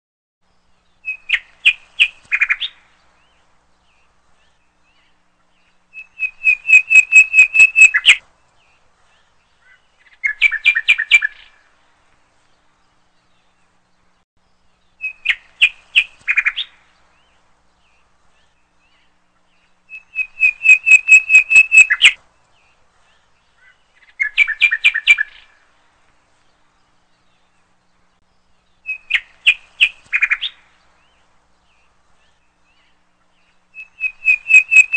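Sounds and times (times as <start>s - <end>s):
bird chirping: 0.4s - 34.9s.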